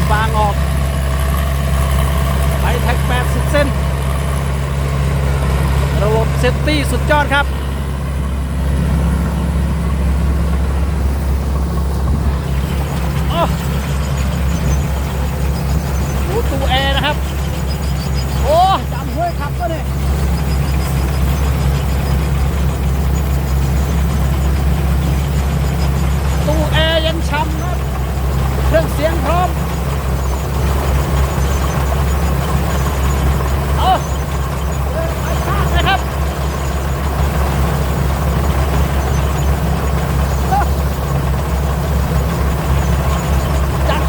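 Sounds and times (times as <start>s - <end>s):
combine harvester engine running: 0.0s - 44.0s.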